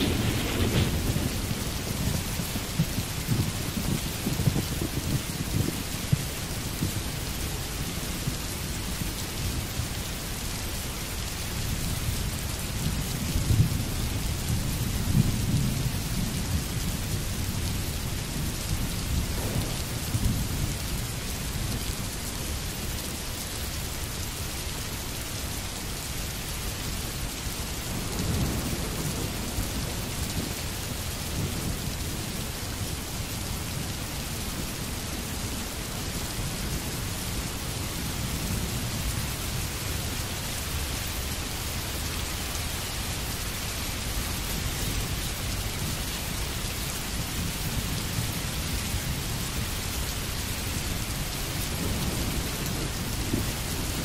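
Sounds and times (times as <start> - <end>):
thunder rumbling: 0.0 - 23.2, 27.6 - 54.0
rain falling on street: 0.0 - 54.0.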